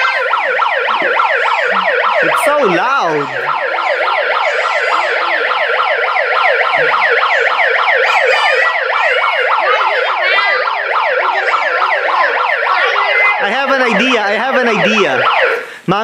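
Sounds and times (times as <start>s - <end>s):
toy electronic siren: 0.0s - 15.7s.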